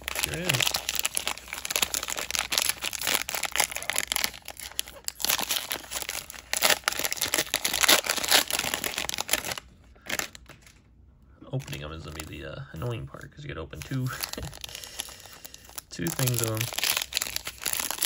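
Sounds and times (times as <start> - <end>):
plastic wrapper crinkling and tearing: 0.0 - 10.9, 11.5 - 18.0.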